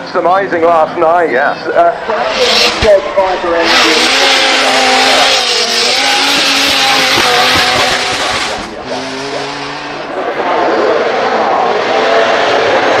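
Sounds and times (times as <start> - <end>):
car engine at high revs: 1.8 - 13.0.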